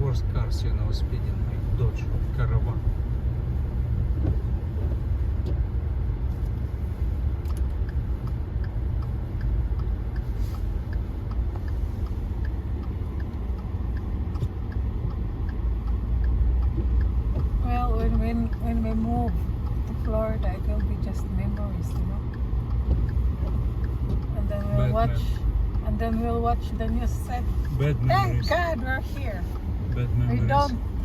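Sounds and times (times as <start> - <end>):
car road rumble on snow: 0.0 - 31.0
light regular ticking: 0.5 - 31.0.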